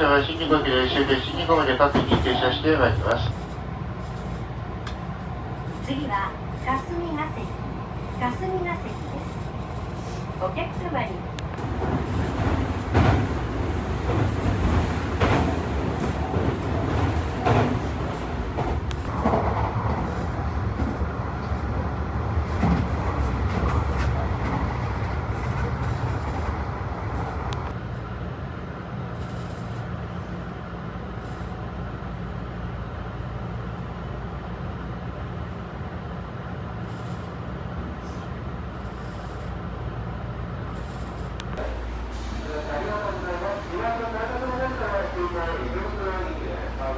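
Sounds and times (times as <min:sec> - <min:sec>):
train low rumble: 0:00.0 - 0:46.9.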